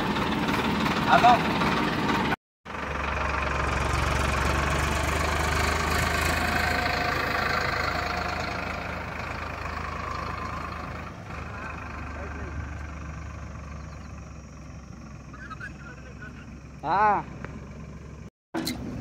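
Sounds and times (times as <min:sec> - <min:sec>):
tractor engine humming: 0:00.0 - 0:19.0.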